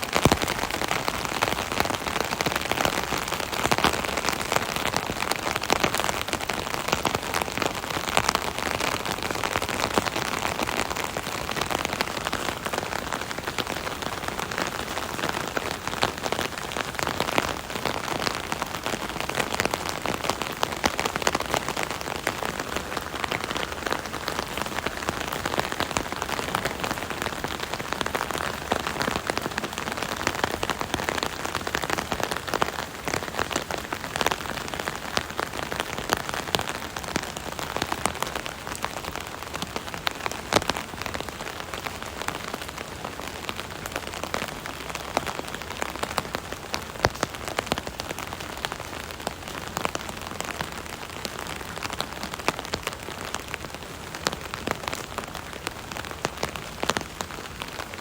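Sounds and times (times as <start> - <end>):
rain pattering on an umbrella: 0.0 - 58.0.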